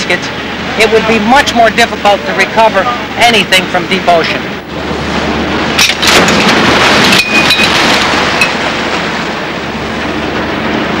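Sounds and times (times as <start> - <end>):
sea water rushing and splashing: 0.0 - 11.0.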